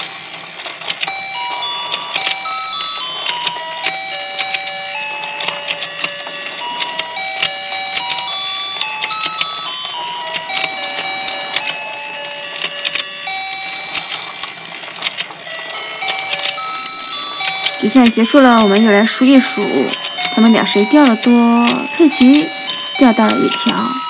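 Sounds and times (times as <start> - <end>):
beeping electronic melody: 0.0 - 24.0
rapid plastic clicking: 0.0 - 24.0.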